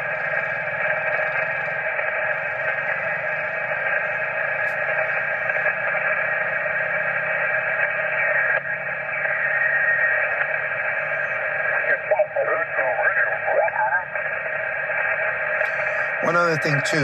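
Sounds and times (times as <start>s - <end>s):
radio static hiss: 0.1s - 17.0s.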